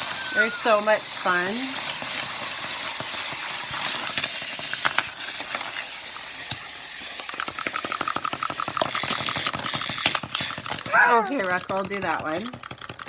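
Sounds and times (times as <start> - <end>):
fast rhythmic buzzing: 0.0 - 13.0
wind-up toy gears whirring: 0.0 - 13.0.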